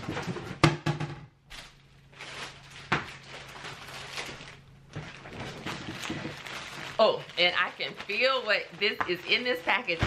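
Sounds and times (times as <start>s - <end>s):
package rustling and handling: 1.5s - 10.0s.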